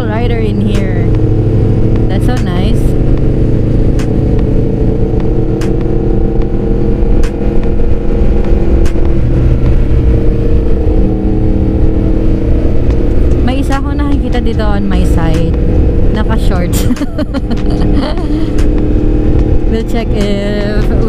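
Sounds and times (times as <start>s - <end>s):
motorcycle engine cruising: 0.0s - 21.0s
wind rumble on microphone: 0.0s - 21.0s.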